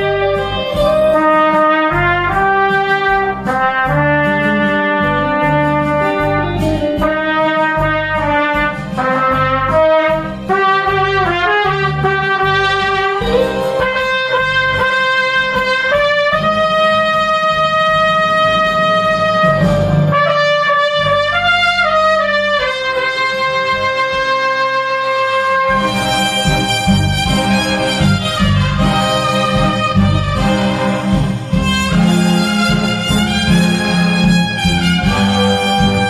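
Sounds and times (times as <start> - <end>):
cornet playing slow melody: 0.0 - 36.0
lower accompaniment: 0.0 - 36.0.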